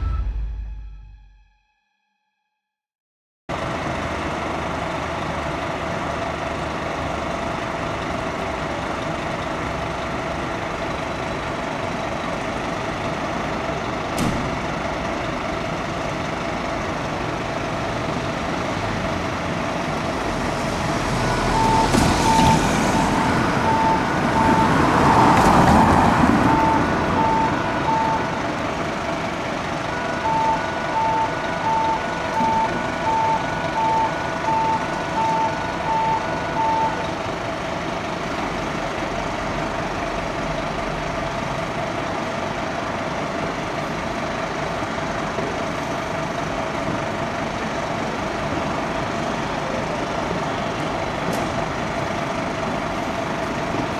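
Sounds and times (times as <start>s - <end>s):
fire engine running: 3.5s - 53.9s.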